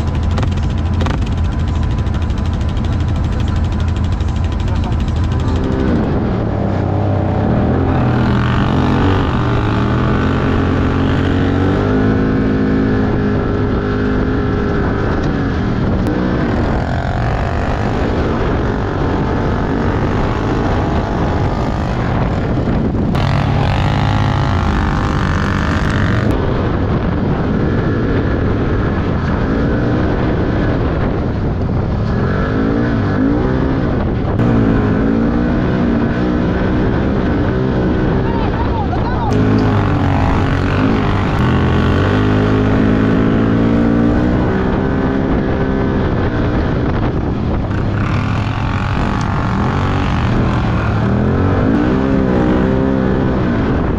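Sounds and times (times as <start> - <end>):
engine revving under load: 0.0 - 38.3, 39.3 - 53.9.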